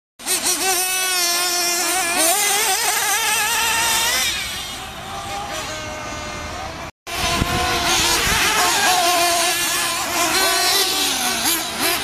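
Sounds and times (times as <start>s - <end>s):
rc truck engine whining: 0.2s - 12.0s.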